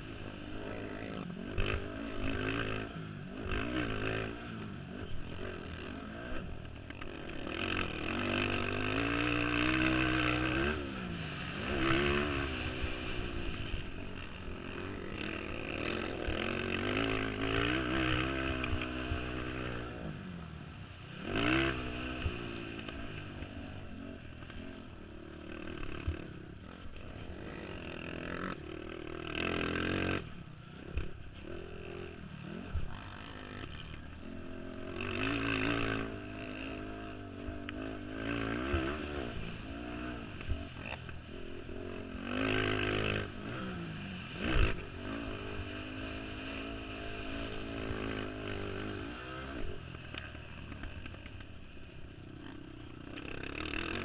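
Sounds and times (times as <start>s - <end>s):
atv engines revving: 0.0s - 54.0s.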